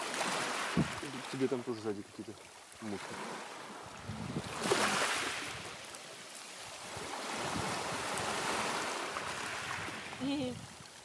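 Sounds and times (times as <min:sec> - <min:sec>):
sea waves washing in: 0:00.0 - 0:11.0.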